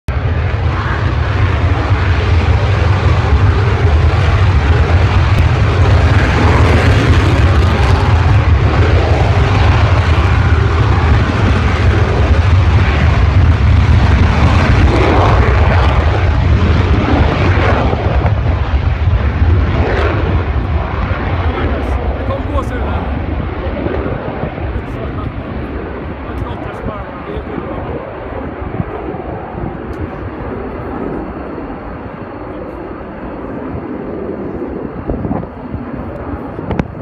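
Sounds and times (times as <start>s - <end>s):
jet engine rumble and hiss: 0.1s - 37.0s.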